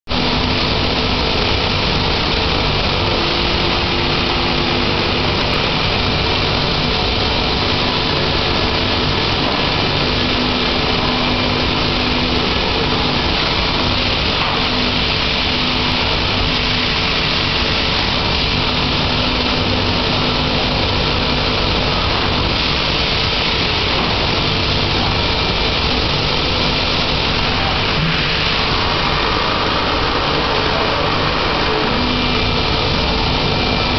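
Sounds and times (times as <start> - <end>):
vacuum-forming machine running: 0.1 - 33.9.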